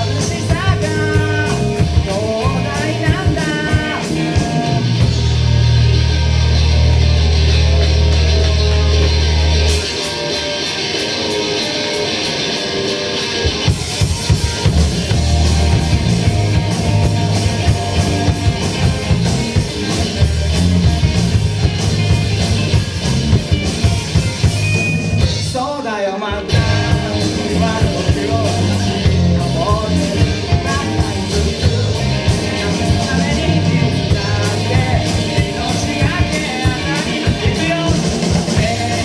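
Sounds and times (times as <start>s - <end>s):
bass guitar: 0.0s - 39.0s
drum kit: 0.0s - 39.0s
electric guitar: 0.0s - 39.0s.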